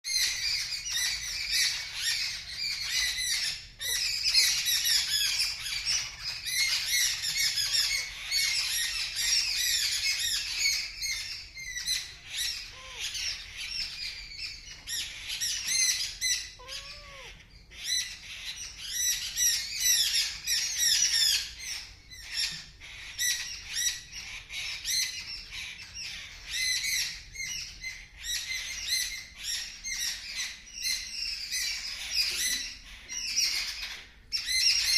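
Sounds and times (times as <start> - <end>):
small birds chirping and squawking: 0.1 - 34.9.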